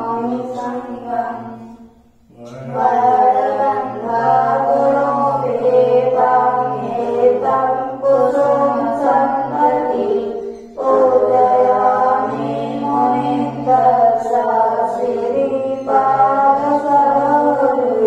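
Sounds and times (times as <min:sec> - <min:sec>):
voices chanting: 0:00.0 - 0:18.0.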